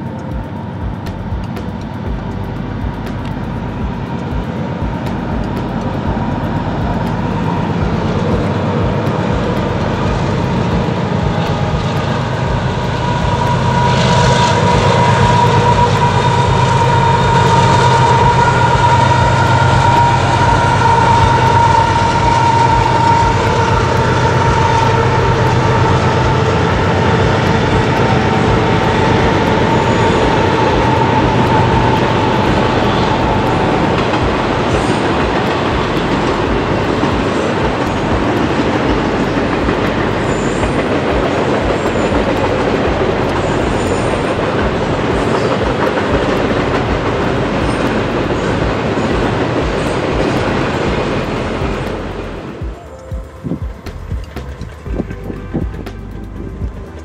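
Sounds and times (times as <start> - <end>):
freight train passing: 0.0 - 57.0
steady high whine: 0.0 - 57.0.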